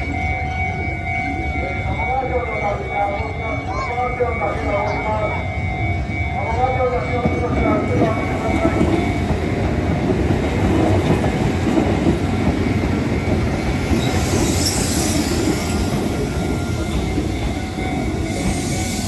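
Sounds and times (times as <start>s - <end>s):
train wheels rumbling on track: 3.6s - 19.0s.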